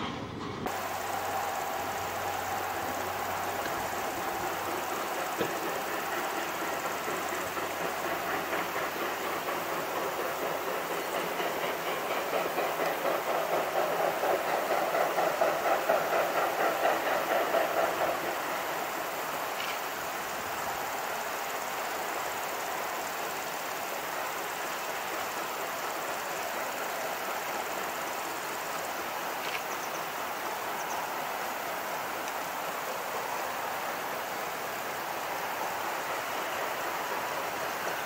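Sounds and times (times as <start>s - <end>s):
distant steam locomotive chuffing: 0.0s - 38.0s.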